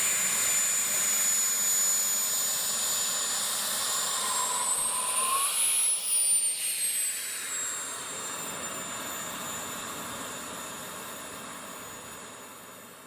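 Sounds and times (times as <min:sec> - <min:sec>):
model jet turbine whining: 0:00.0 - 0:12.8.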